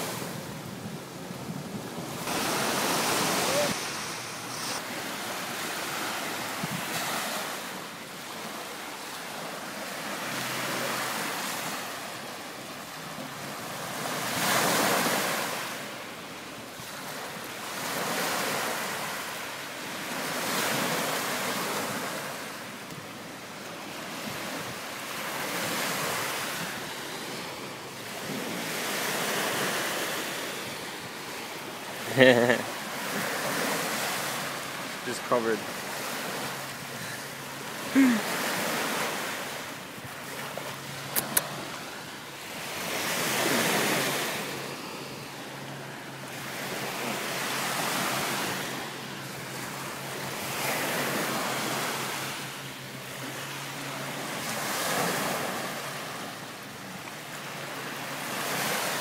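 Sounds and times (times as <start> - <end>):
small waves washing onto sand: 0.0 - 59.0.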